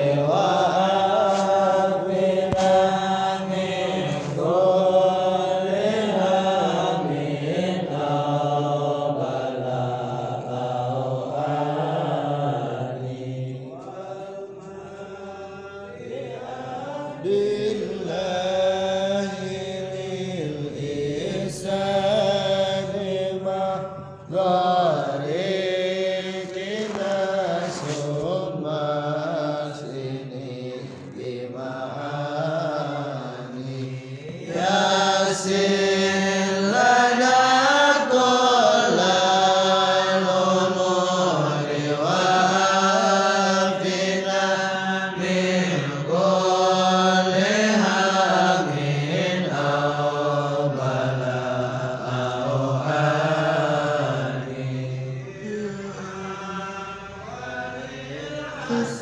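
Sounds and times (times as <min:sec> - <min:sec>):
group chanting devotional song: 0:00.0 - 0:59.0
low hum of voices: 0:00.0 - 0:59.0.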